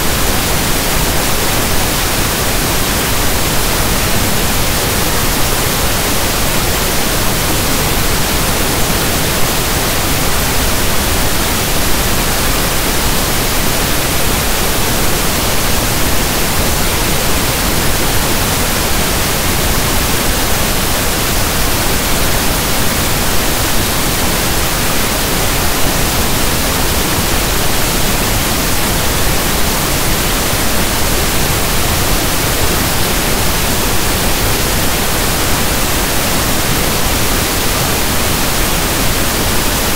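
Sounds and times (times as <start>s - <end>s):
synthesized pink noise: 0.0s - 39.9s.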